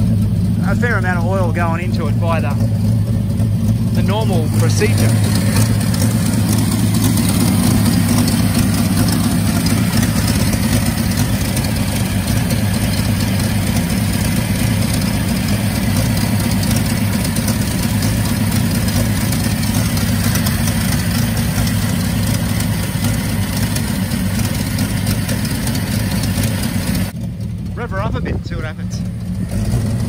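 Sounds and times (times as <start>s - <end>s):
engine ticking: 0.0s - 30.0s
truck engine idling: 0.0s - 30.0s.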